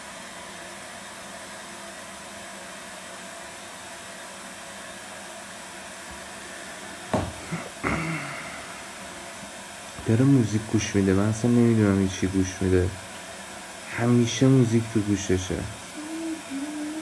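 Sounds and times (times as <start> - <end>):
washing machine running: 2.1 - 17.0.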